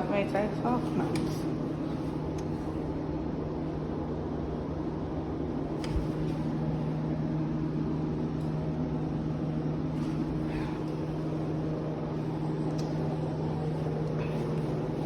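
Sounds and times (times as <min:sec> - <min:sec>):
laundry machine humming: 0:00.0 - 0:15.0.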